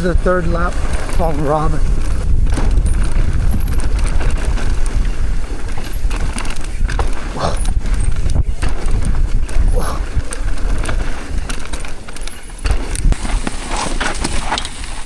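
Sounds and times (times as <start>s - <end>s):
bike tyres rattling over rocks: 0.0s - 15.0s
wind rumble on microphone: 0.0s - 15.0s.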